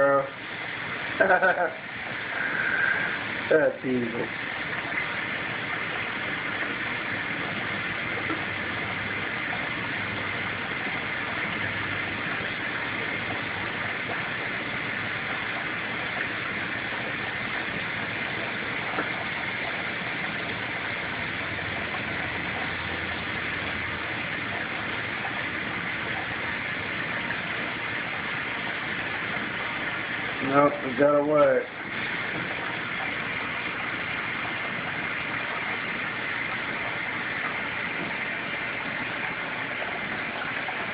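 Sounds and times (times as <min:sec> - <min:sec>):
faint low motor hum: 0:00.0 - 0:40.9.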